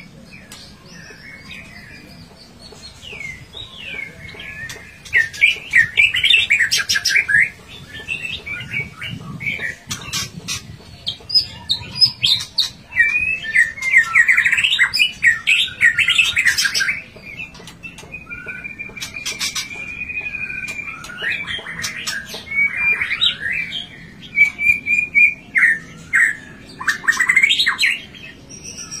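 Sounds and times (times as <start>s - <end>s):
bird singing whistles and trills: 3.0s - 29.0s.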